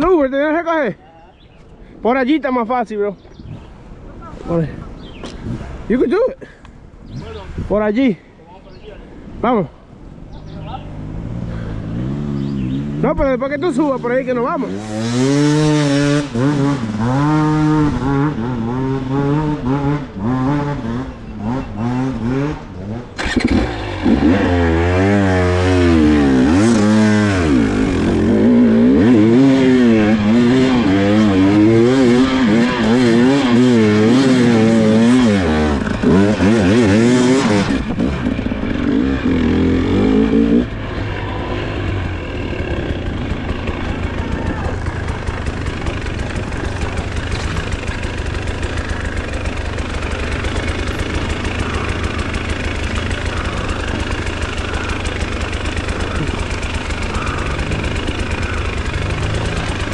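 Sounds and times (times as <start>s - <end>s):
dirt bike engine revving: 10.1s - 59.9s.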